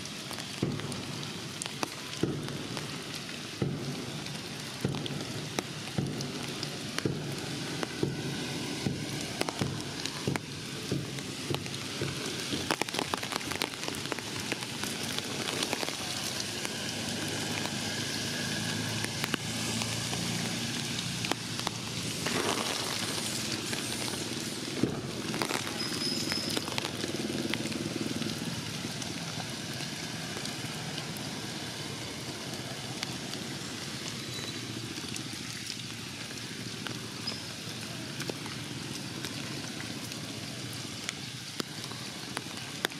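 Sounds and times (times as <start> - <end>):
rain falling on leaves: 0.0 - 42.9.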